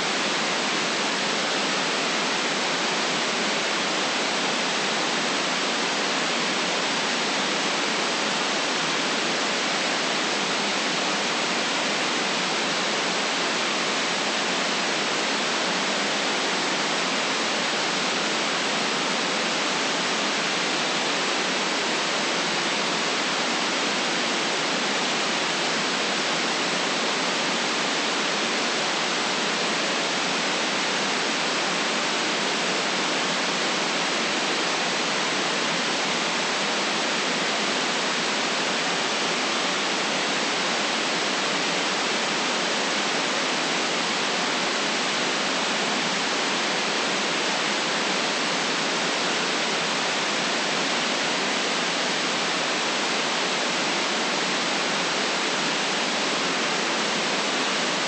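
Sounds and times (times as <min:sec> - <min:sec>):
steady white noise: 0:00.0 - 0:58.0.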